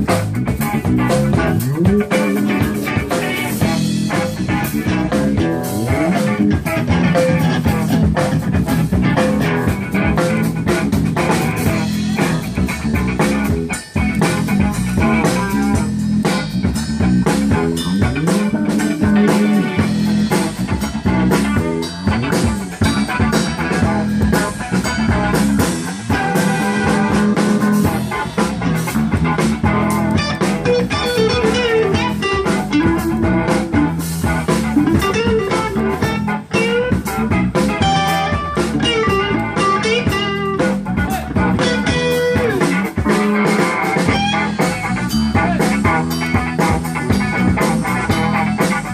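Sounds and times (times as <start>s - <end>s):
blues-rock band playing: 0.0s - 48.9s
lead guitar bending notes: 0.0s - 48.9s.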